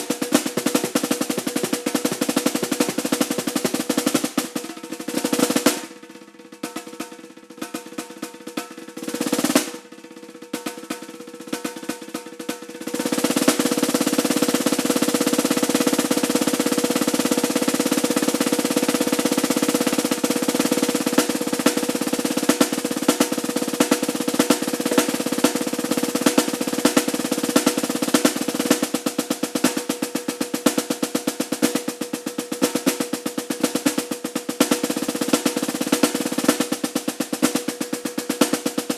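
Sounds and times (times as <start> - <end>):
snare drum strokes and rolls: 0.0 - 38.9.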